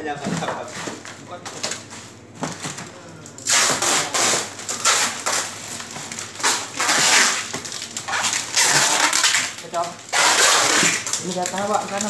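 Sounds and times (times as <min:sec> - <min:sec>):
rustling crackling handling noise: 0:00.4 - 0:12.0.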